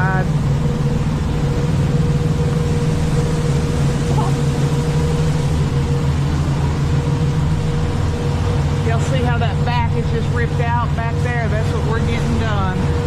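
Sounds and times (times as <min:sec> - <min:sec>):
diesel truck engine idling: 0:00.0 - 0:13.0
faint steady hum: 0:00.0 - 0:13.0.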